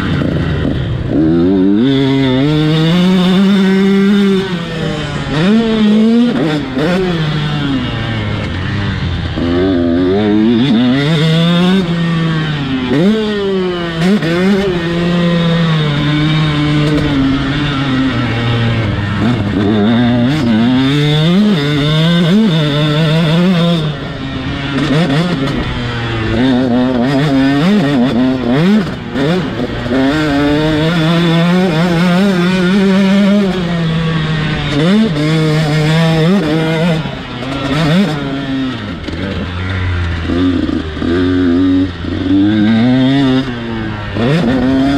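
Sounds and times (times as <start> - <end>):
two-stroke engine revving: 0.0 - 44.9.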